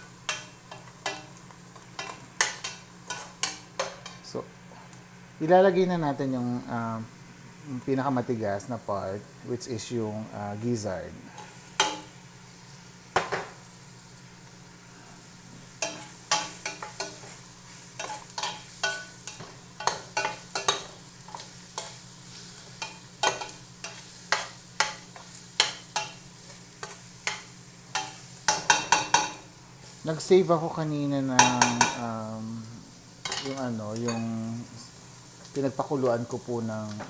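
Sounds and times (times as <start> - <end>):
oil sizzling: 0.0 - 37.0.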